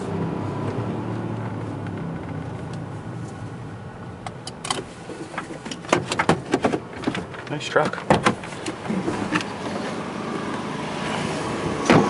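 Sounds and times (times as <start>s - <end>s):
engine and road noise in cab: 0.0s - 12.0s.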